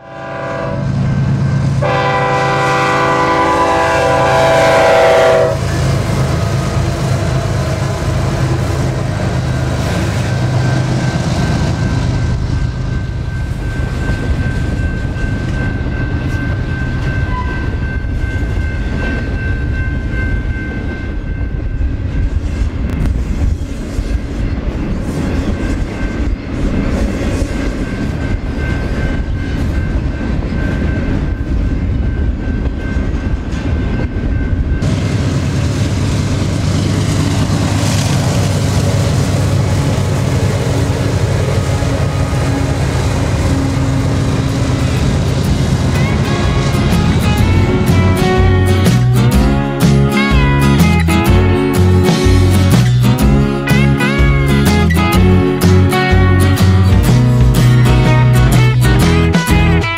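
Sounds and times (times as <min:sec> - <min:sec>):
diesel locomotive engine drone: 0:00.0 - 0:59.9
wheels rumbling and clattering on rail: 0:00.0 - 0:59.9.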